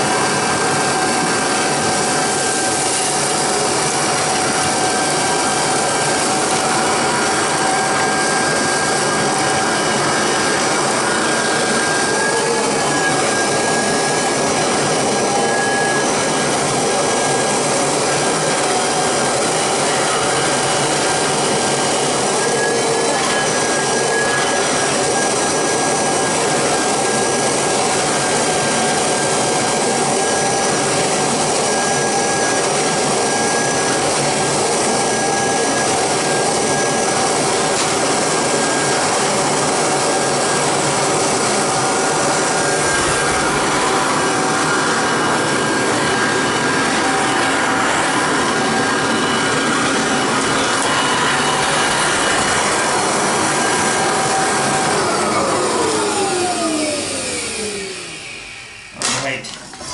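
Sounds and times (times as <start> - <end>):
vacuum motor rush with whine: 0.0 - 59.9.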